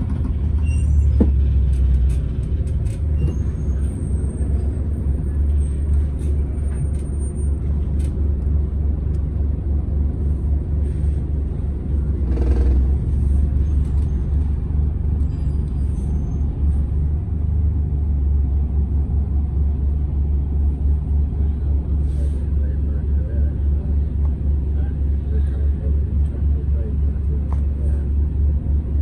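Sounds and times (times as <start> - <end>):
bus diesel engine drone: 0.0 - 29.0
road rumble: 0.0 - 29.0.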